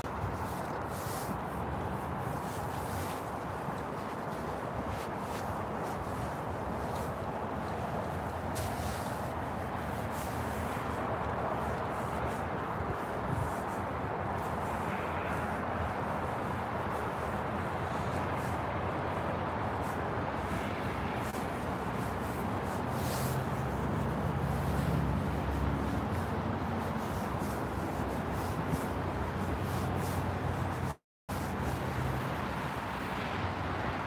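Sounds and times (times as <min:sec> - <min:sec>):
road traffic rumble: 0:00.0 - 0:34.0
vehicle passing: 0:05.2 - 0:34.0.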